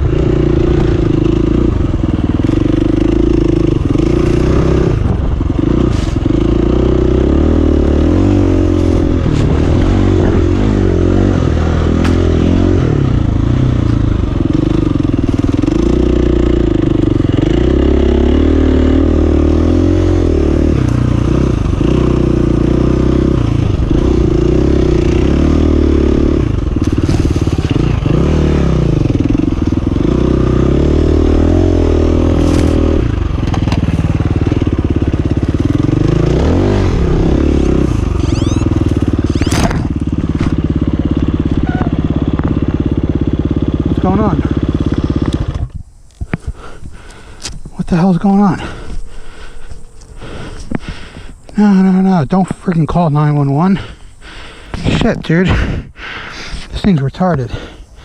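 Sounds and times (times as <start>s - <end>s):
dirt bike engine revving: 0.0s - 47.3s.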